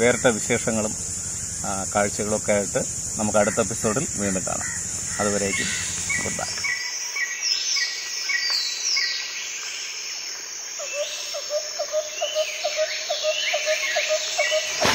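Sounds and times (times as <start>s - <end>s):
birds calling: 0.0s - 9.4s, 10.8s - 14.9s
insect buzz: 0.0s - 14.9s.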